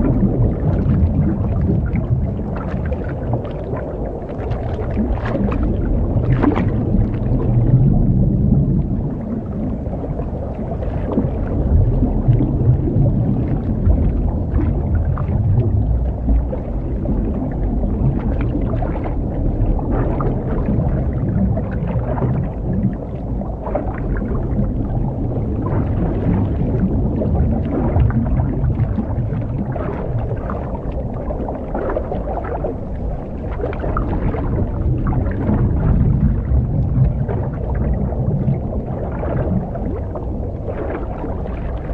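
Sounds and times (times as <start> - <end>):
exhaled bubbles: 0.0 - 41.9.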